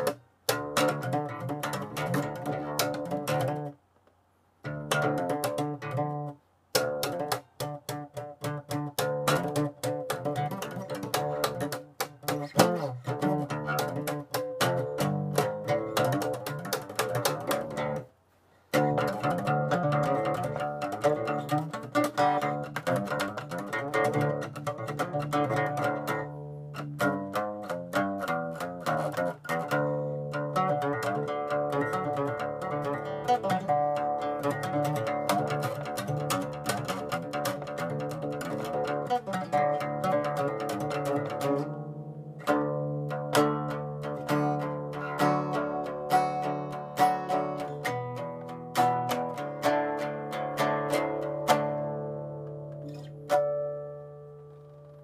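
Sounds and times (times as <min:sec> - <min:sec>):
acoustic guitar picking: 0:00.0 - 0:03.8, 0:04.7 - 0:18.1, 0:18.7 - 0:55.0.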